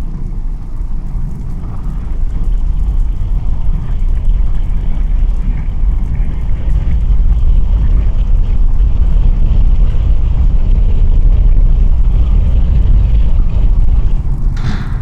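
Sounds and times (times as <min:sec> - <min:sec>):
heavy engine deep rumble: 0:00.0 - 0:15.0.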